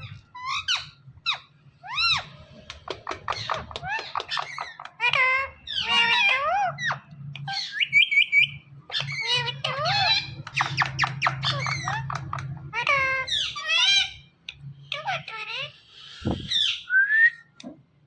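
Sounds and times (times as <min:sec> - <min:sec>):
parrot chattering and squawking: 0:00.0 - 0:16.9.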